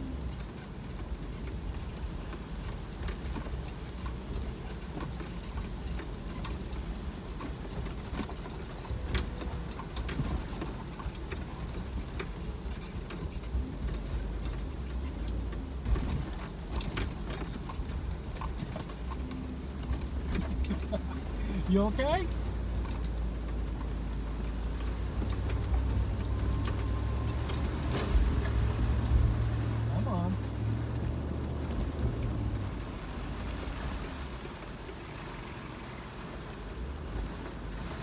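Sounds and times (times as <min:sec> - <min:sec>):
car engine and road rumble: 0:00.0 - 0:38.0
raindrops tapping on windshield: 0:00.0 - 0:38.0.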